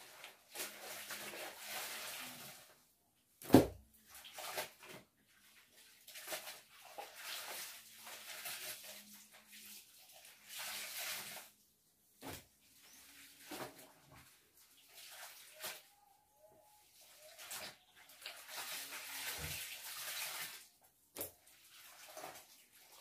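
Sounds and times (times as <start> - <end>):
water splashing and dripping: 0.0 - 2.8, 3.4 - 11.6, 12.2 - 16.1, 16.8 - 23.0.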